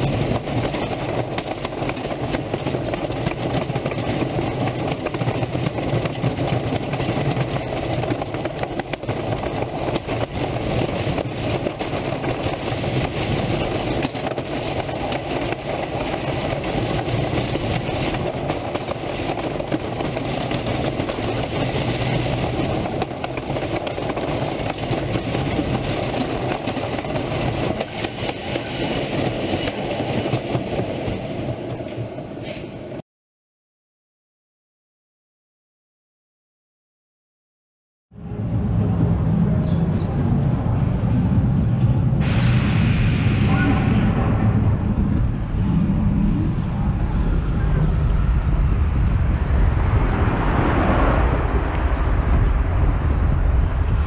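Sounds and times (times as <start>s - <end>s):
roller coaster wheels rumbling on track: 0.0s - 33.0s, 38.2s - 54.0s
rushing wind: 0.0s - 33.0s, 38.1s - 54.0s.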